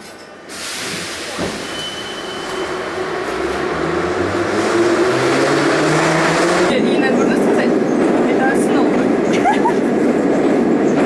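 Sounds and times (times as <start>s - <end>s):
train rail and wheel rush: 0.0s - 11.0s.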